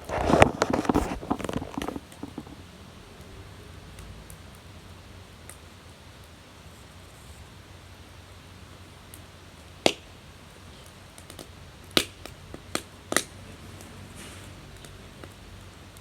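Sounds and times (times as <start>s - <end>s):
faint steady hiss: 0.0s - 16.0s
firewood crackling and popping: 0.0s - 16.0s.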